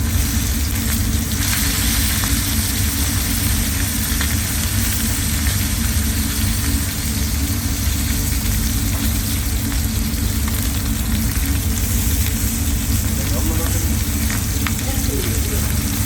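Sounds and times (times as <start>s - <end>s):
constant low rumble: 0.0s - 16.0s
food sizzling in a pan: 0.0s - 16.0s.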